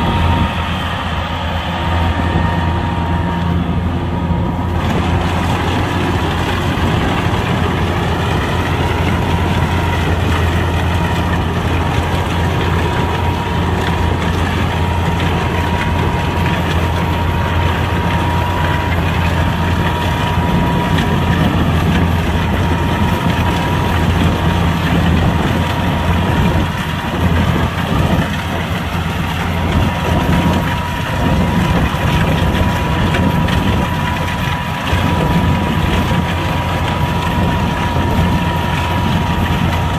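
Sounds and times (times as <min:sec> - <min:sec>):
combine harvester engine running: 0:00.0 - 0:39.9
machinery whine: 0:00.0 - 0:39.9.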